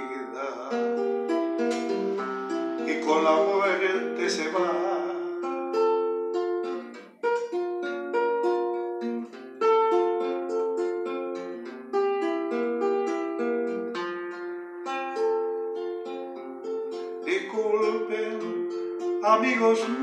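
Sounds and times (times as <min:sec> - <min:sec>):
classical guitar plucked melody: 0:00.0 - 0:20.0.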